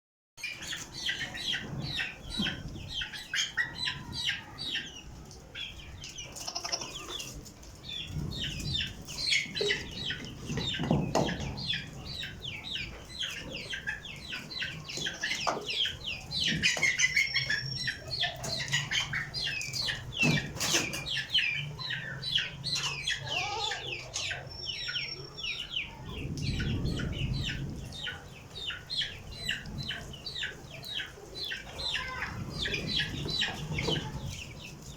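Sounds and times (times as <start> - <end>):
flock of birds chirping: 0.4 - 34.9.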